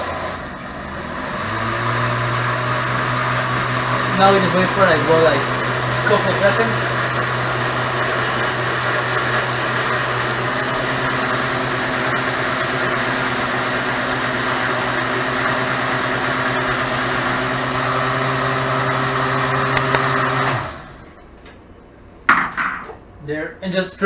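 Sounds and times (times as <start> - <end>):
blender motor running: 0.0 - 21.2.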